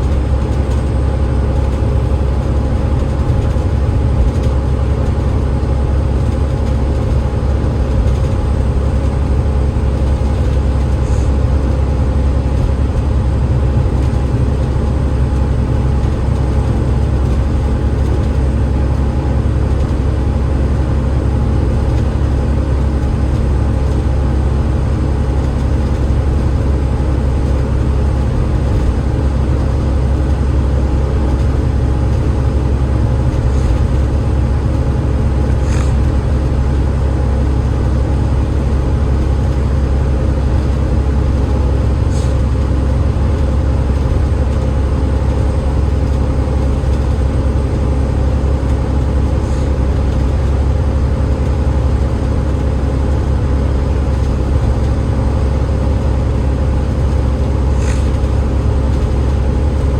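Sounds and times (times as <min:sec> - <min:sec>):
bus engine and road noise drone: 0:00.0 - 0:59.9.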